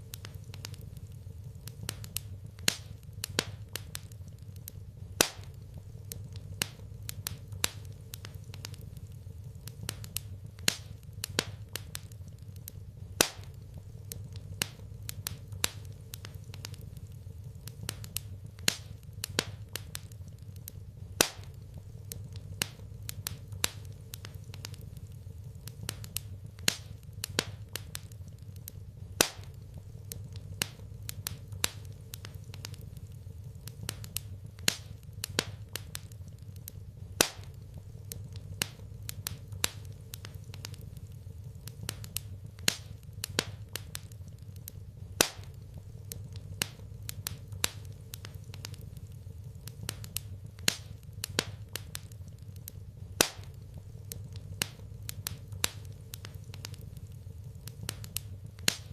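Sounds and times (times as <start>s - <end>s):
low steady rumble: 0.0s - 58.9s
wood fire crackling: 0.0s - 58.9s.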